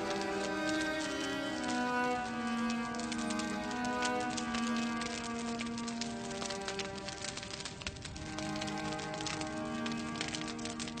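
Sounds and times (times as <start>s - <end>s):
slow violin music: 0.0s - 11.0s
wood fire crackling and popping: 0.0s - 11.0s.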